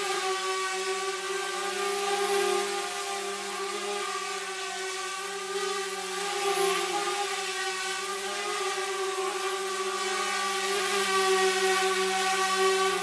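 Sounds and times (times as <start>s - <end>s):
motor droning hum: 0.0s - 13.0s.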